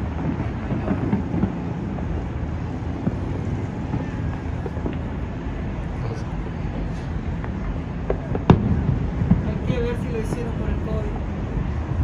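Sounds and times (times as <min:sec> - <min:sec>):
distant fireworks popping: 0:00.0 - 0:12.0
steady low rumble: 0:00.0 - 0:12.0.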